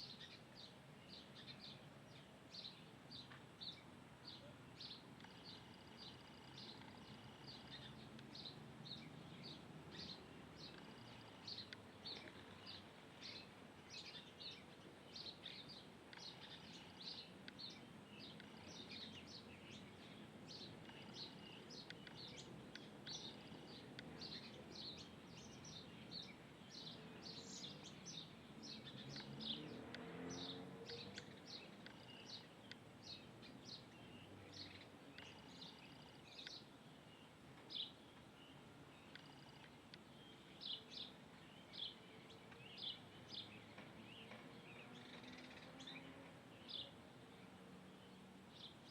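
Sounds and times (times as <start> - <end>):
faint bird chirping: 0.0 - 48.9
outdoor background noise: 0.0 - 48.9.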